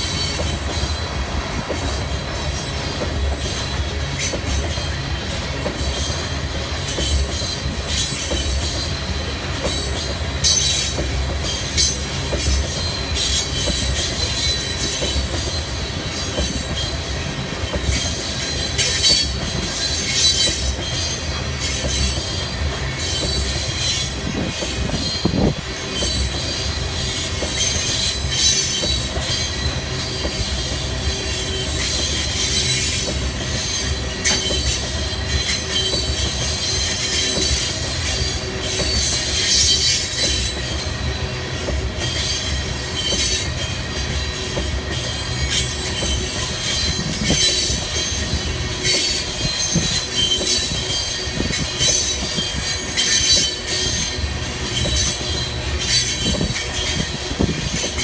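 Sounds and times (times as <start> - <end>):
steel wheels rumbling on rail: 0.0 - 58.0
high wheel squeals: 1.8 - 58.0.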